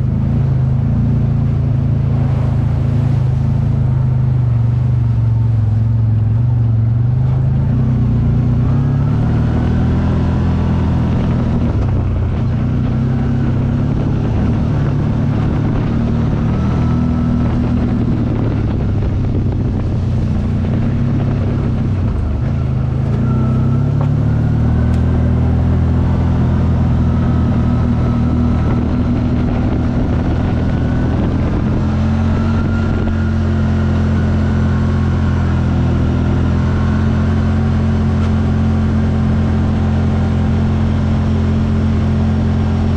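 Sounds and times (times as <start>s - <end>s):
engine running while moving: 0.0s - 42.9s.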